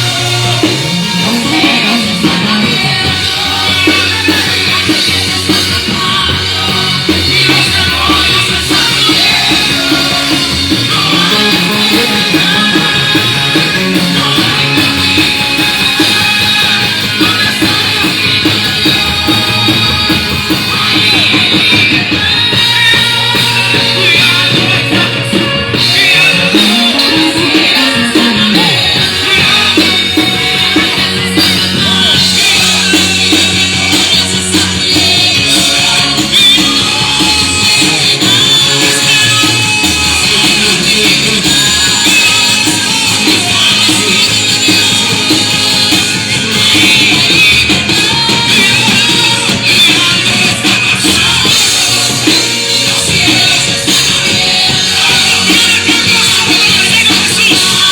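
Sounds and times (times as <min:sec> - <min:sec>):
drum kit: 0:00.0 - 0:57.9
person singing: 0:00.0 - 0:57.9
upbeat rock band playing: 0:00.0 - 0:57.9.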